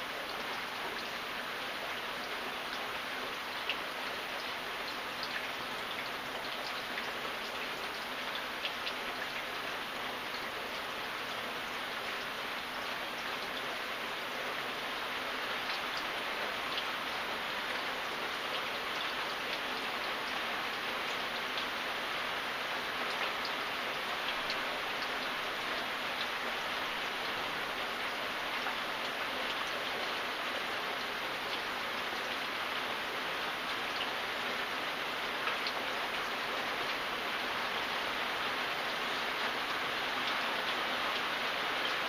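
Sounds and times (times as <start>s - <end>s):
raindrops pattering close by: 0.0s - 42.0s
steady rain: 0.0s - 42.0s.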